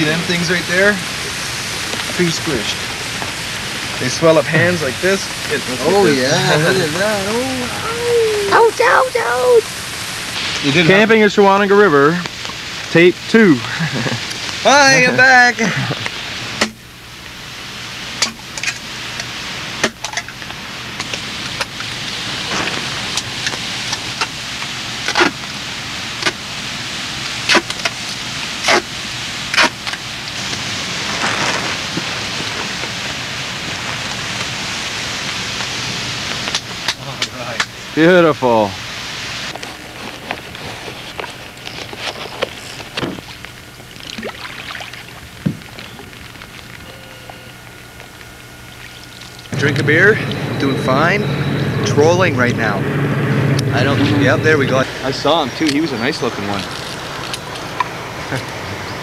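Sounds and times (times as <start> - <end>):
rain pattering on water: 0.0 - 50.6, 54.7 - 59.0
steady hiss: 0.0 - 59.0.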